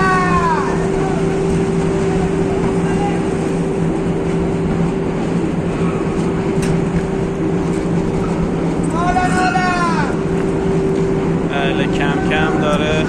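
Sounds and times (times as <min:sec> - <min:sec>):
industrial machinery hum: 0:00.0 - 0:13.0.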